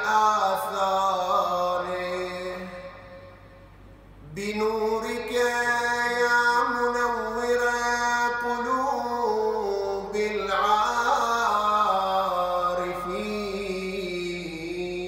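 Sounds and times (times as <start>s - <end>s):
man chanting melodically: 0.0s - 3.4s, 4.2s - 15.0s.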